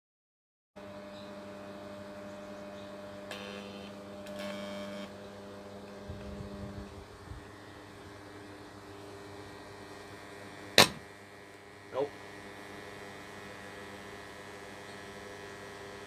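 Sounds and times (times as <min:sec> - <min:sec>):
high buzzing noise: 0:00.8 - 0:16.0
steady electrical hum: 0:00.8 - 0:16.0.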